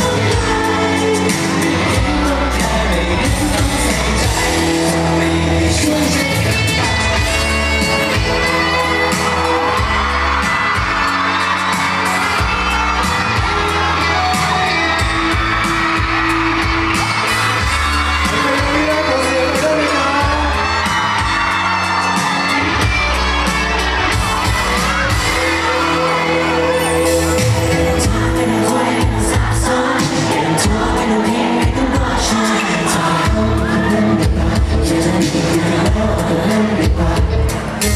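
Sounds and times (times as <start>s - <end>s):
men singing pop song: 0.0s - 37.9s
drum beat: 5.8s - 37.9s.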